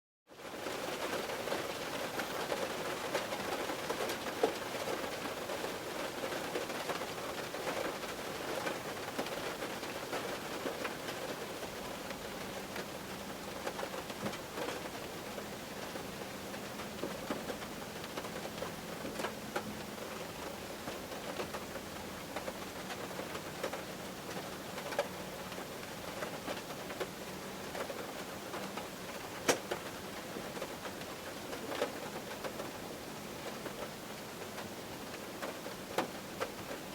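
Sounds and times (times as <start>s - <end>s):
rain on a car roof: 0.3s - 36.9s.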